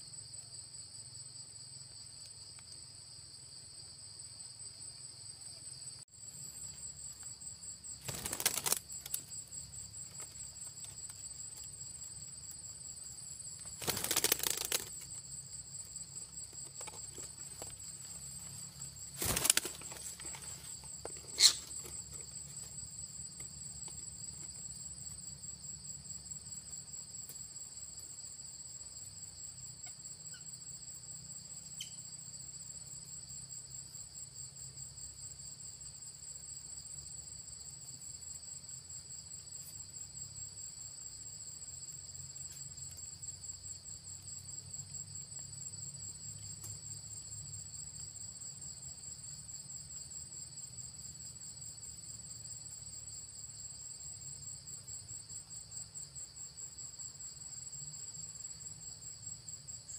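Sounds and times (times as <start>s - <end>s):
insect chorus trilling: 0.0s - 59.9s.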